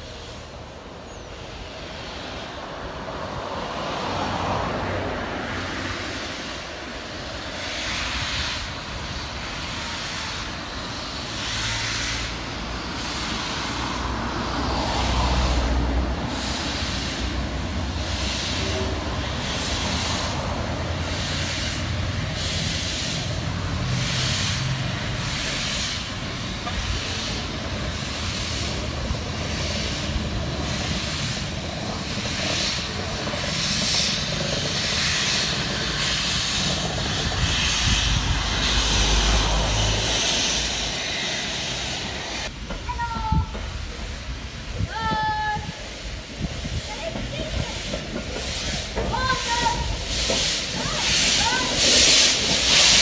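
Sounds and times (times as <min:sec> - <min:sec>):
steam hissing: 0:00.0 - 0:04.3, 0:05.5 - 0:53.0
steam locomotive chuffing: 0:05.5 - 0:53.0.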